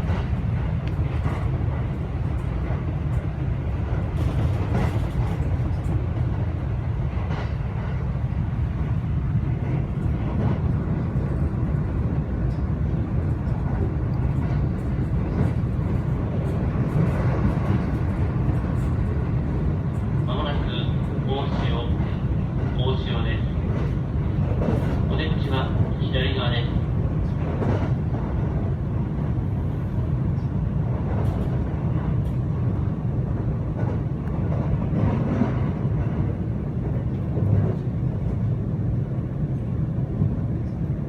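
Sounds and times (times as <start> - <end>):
train wheels rumbling on track: 0.0 - 41.0.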